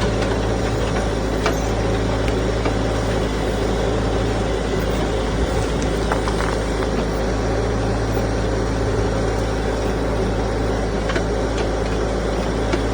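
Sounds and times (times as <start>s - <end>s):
backhoe engine running: 0.0s - 12.9s.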